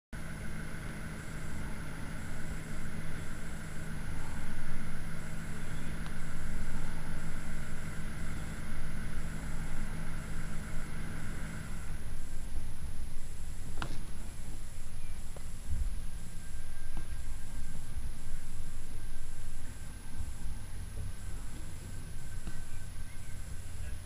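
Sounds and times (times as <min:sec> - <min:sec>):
motor humming: 0:00.2 - 0:24.0
low rumble: 0:00.4 - 0:24.0.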